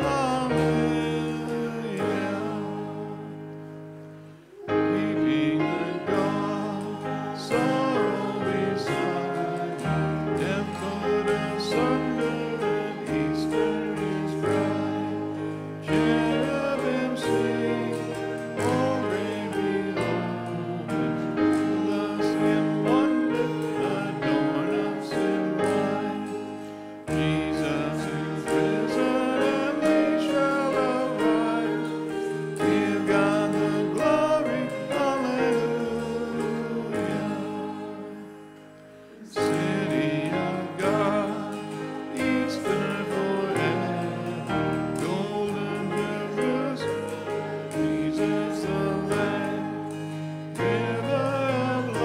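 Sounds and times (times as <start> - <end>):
congregation singing a hymn: 0.0 - 52.0
keyboard accompaniment: 0.0 - 52.0.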